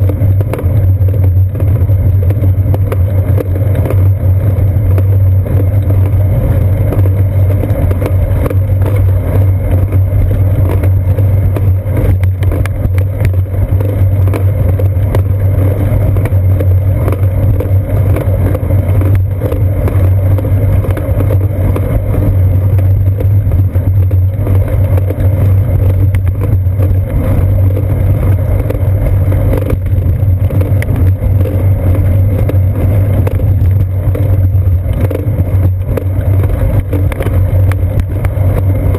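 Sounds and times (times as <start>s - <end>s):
wind and road vibration drone: 0.0s - 38.9s.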